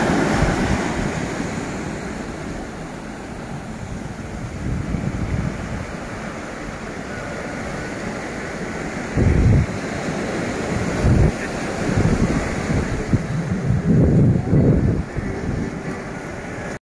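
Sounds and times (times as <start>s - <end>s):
surf washing over rocks: 0.0s - 16.8s
wind buffeting microphone: 0.0s - 16.8s.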